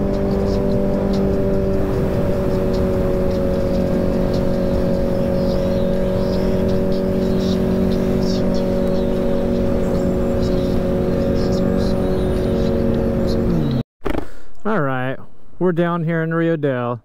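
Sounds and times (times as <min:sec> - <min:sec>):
wind and road noise: 0:00.0 - 0:14.4
motorcycle engine cruising: 0:00.0 - 0:15.6.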